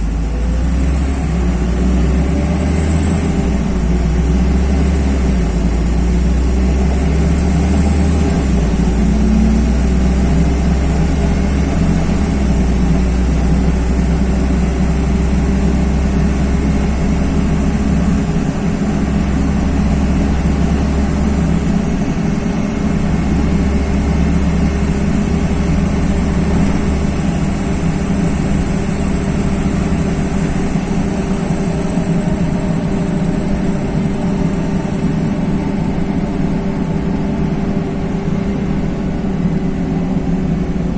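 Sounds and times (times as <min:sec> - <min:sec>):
bus engine drone: 0:00.0 - 0:40.9
road rumble: 0:00.0 - 0:40.9.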